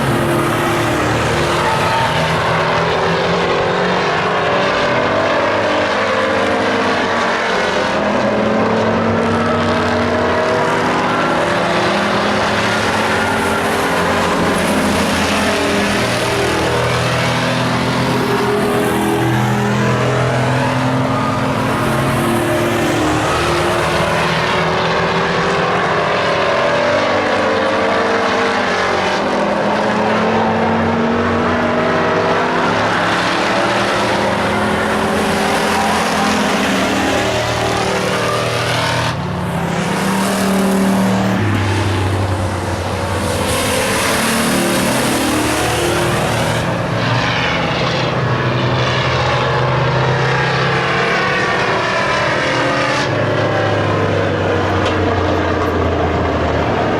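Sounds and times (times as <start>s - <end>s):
race truck engines revving: 0.0s - 56.9s.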